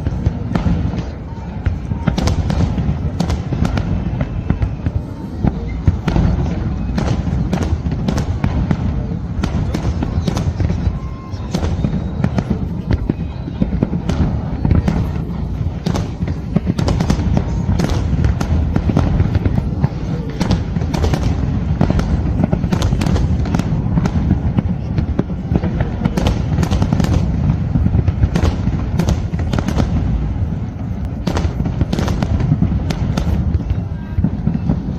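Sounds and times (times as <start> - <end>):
fireworks booming: 0.0 - 34.9
sharp fireworks cracks: 0.0 - 34.9.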